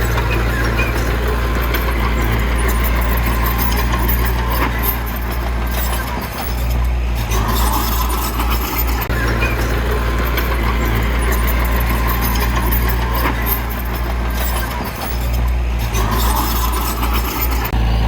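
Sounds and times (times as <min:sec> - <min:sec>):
diesel engine running low: 0:00.0 - 0:18.0
rattling and clanking: 0:00.0 - 0:18.0.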